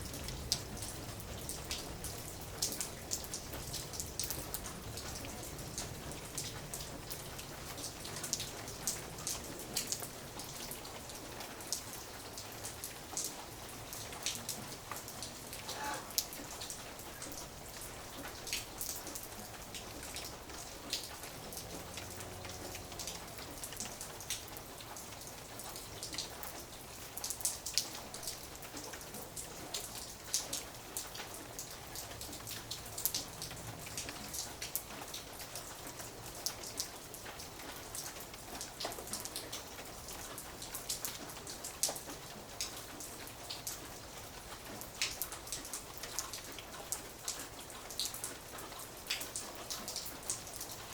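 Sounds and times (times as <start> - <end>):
light rain falling: 0.0 - 50.9.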